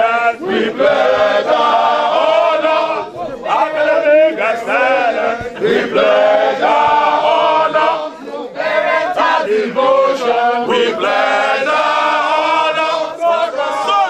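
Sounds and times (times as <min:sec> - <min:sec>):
crowd chanting in unison: 0:00.0 - 0:14.0.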